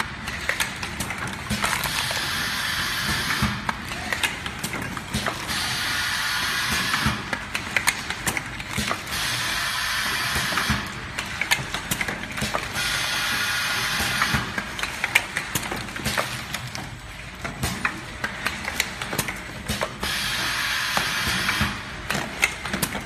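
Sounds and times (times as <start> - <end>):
packing machine clicking and clattering: 0.0 - 23.0.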